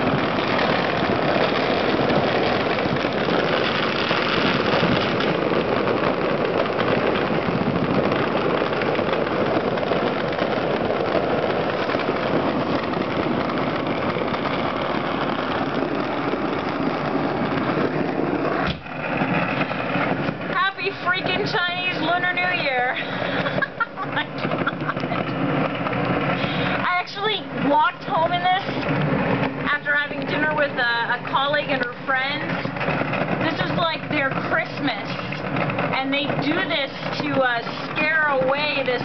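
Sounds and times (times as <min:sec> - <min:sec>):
fireworks crackling: 0:00.0 - 0:39.0.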